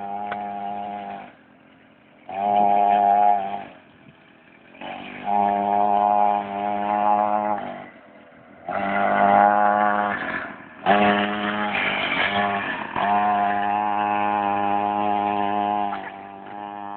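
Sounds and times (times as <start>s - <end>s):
small motorbike engine running: 0.0s - 16.9s.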